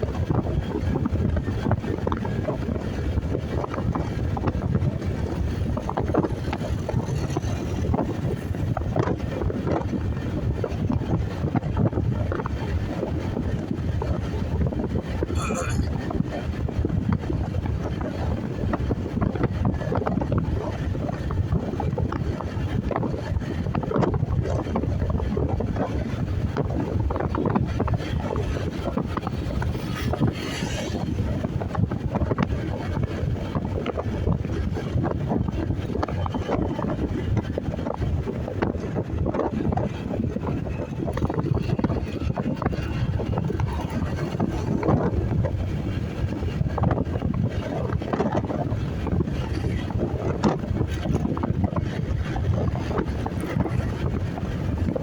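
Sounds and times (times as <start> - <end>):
road noise: 0.0 - 55.0
wind buffeting on microphone: 0.0 - 55.0.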